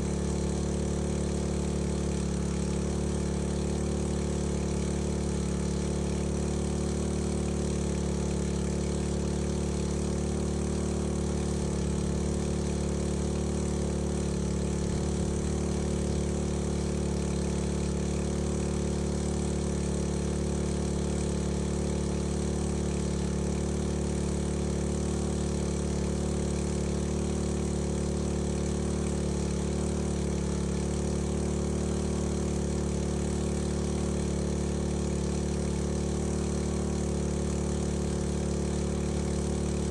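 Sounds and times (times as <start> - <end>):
fire pump engine running: 0.0 - 39.9.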